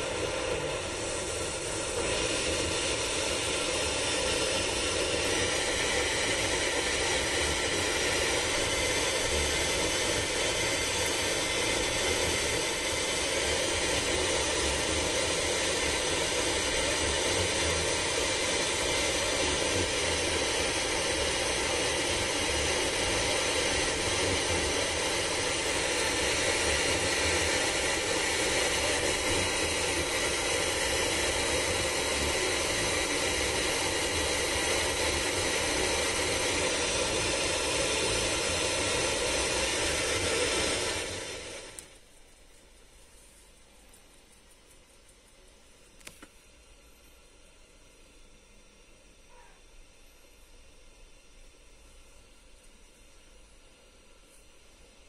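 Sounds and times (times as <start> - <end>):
steady hiss inside car: 0.0 - 55.0.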